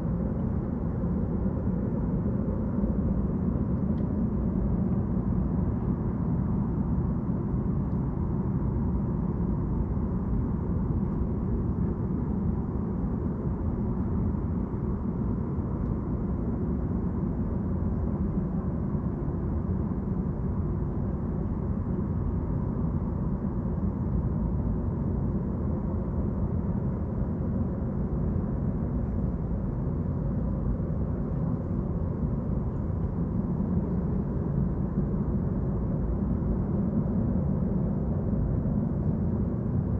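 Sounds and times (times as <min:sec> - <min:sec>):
low engine drone: 0:00.0 - 0:39.9.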